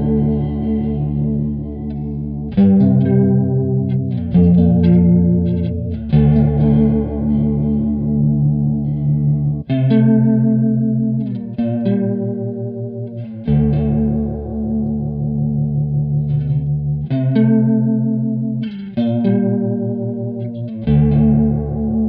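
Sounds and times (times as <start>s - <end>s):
electric guitar chords with chorus: 0.0s - 22.0s.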